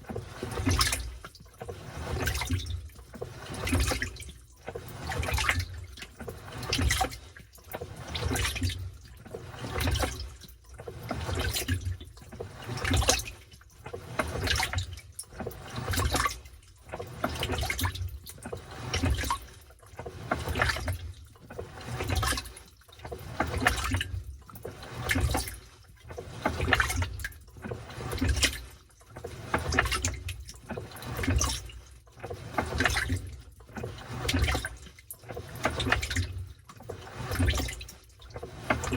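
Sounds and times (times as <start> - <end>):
washing machine sloshing water: 0.0 - 38.9.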